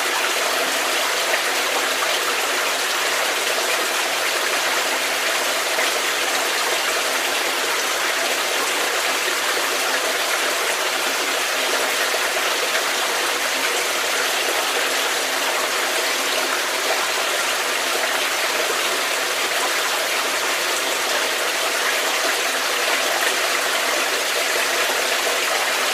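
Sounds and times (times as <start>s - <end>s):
stream rushing in a cave: 0.0s - 25.9s.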